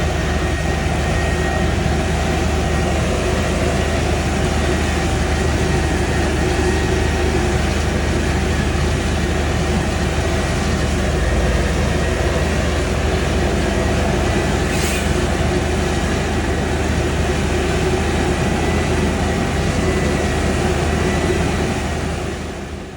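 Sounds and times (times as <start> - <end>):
harvest machinery running: 0.0 - 22.9.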